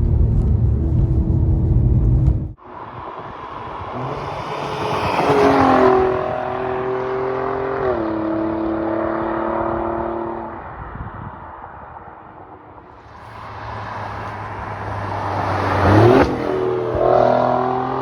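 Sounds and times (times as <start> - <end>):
car engine accelerating: 0.0 - 2.6, 3.6 - 10.6, 13.0 - 18.0.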